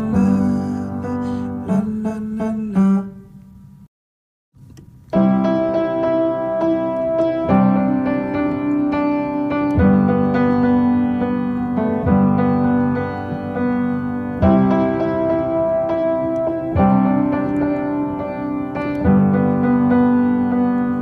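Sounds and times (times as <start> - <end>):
piano playing slow chords: 0.0 - 3.4, 5.0 - 21.0.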